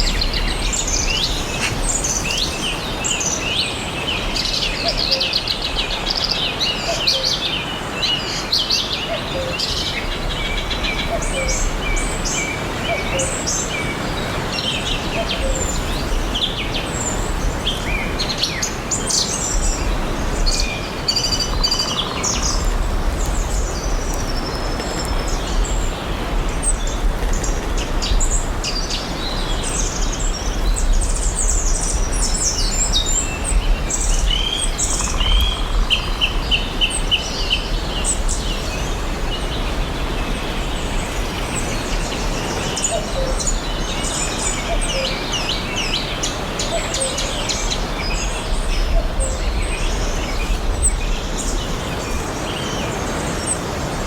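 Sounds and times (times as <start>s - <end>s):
forest background hiss: 0.0s - 54.0s
songbirds chirping and trilling: 0.0s - 54.0s.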